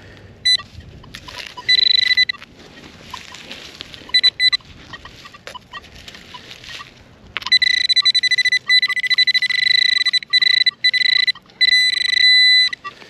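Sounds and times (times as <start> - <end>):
pinpointer electronic tone: 0.4 - 13.0.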